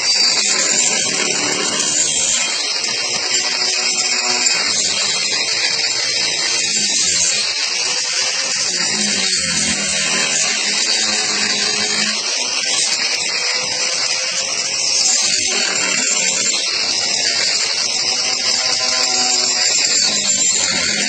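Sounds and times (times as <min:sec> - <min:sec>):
angle grinder grinding wood: 0:00.0 - 0:21.0.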